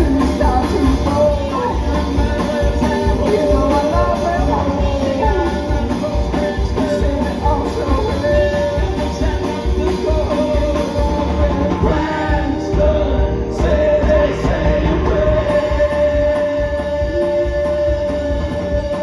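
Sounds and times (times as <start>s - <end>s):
live rock band playing: 0.0s - 19.0s
men singing into microphones: 0.0s - 19.0s.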